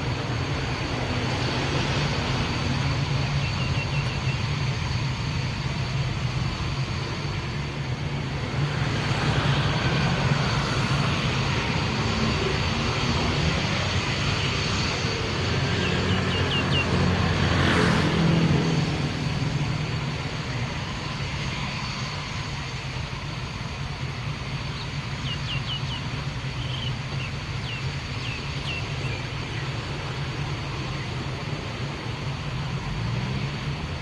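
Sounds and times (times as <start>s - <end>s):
fighter jets passing overhead: 0.0s - 34.0s.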